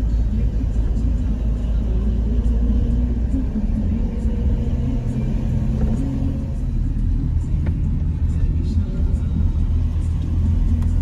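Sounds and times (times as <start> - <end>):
car rumbling on the move: 0.0 - 11.0
faint engine hum: 0.0 - 11.0.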